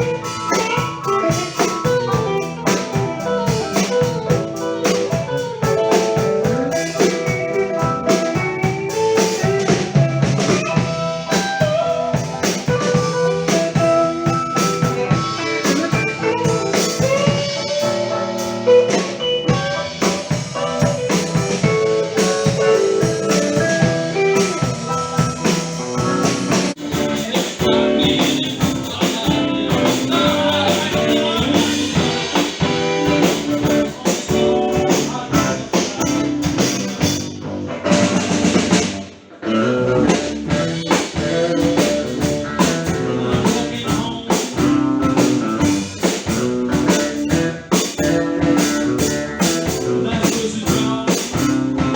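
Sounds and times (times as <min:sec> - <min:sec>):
drum kit beat: 0:00.0 - 0:39.2, 0:40.0 - 0:51.9
blues guitar line: 0:00.0 - 0:51.9.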